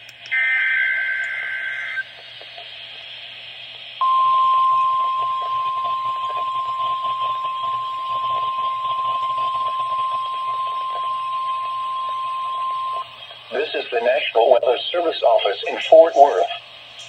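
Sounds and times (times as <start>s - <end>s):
faint radio hiss: 0.0s - 17.0s
steady alarm tone: 0.3s - 2.2s, 4.0s - 16.6s.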